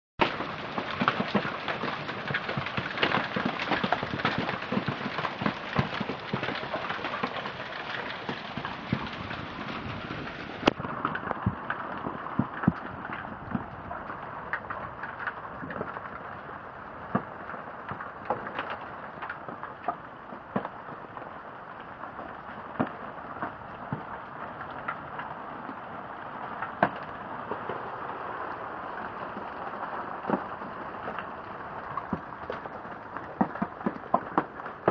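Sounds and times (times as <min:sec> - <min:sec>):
hail pelting deck and furniture: 0:00.2 - 0:34.9.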